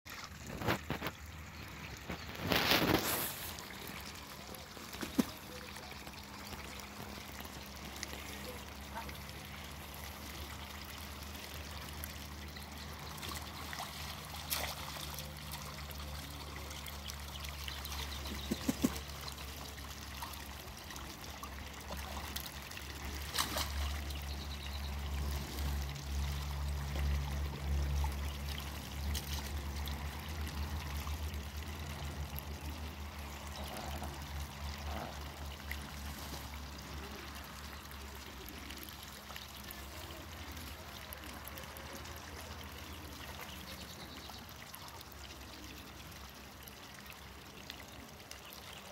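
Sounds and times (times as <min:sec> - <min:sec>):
ducks dabbling in water: 0:00.1 - 0:48.9.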